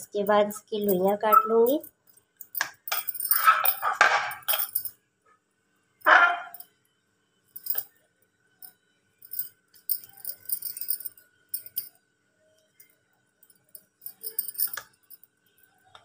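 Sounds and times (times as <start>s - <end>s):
glass bangles clinking: 0.0s - 5.0s, 6.1s - 6.7s, 7.5s - 8.0s, 8.6s - 12.0s, 12.6s - 16.0s.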